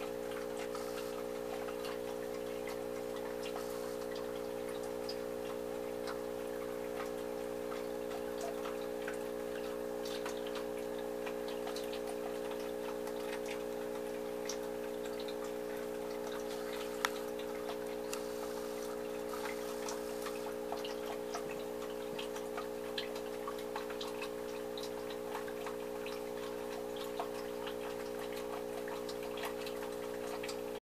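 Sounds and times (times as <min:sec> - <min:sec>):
aquarium air pump humming: 0:00.0 - 0:30.8.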